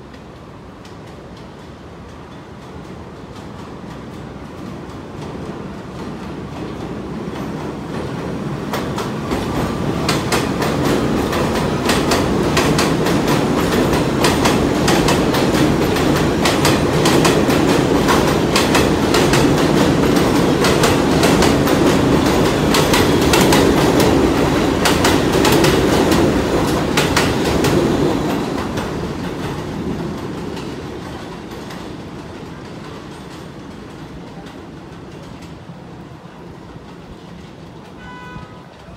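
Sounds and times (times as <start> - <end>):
subway train passing: 0.0 - 38.9.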